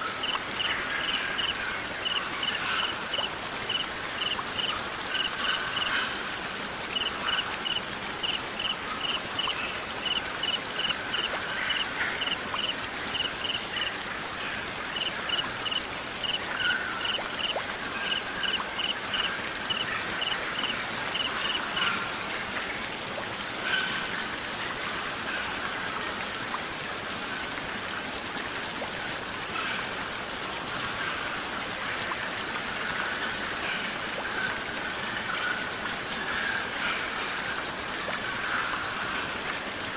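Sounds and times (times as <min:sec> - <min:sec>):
hiss of rain or running water: 0:00.0 - 0:39.9.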